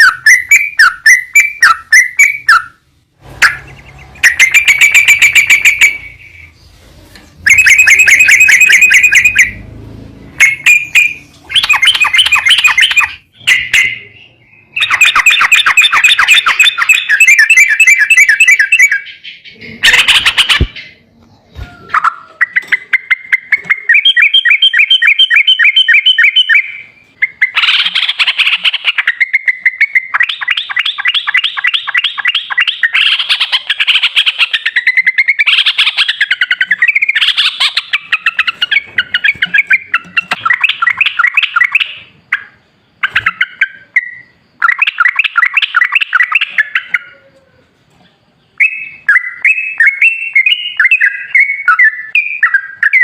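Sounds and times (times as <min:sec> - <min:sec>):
bird chattering trills: 0:03.4 - 0:06.7, 0:07.4 - 0:09.6, 0:10.4 - 0:47.4.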